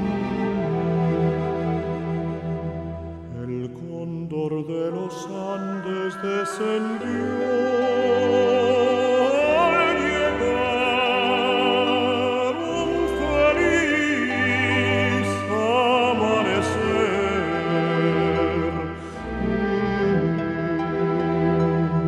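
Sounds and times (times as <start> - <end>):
orchestral accompaniment: 0.0 - 22.0
operatic singing voice: 3.2 - 21.8.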